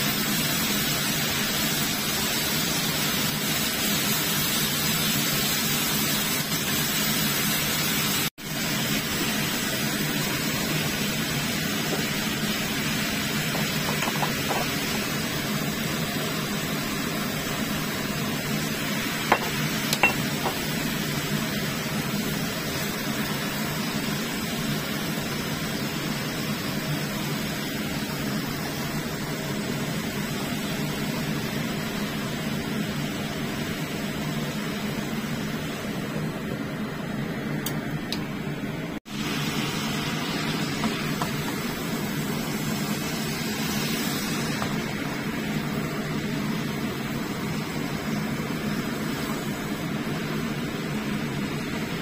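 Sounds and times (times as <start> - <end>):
meat and vegetables sizzling in a pan: 0.0 - 38.4, 39.0 - 52.0.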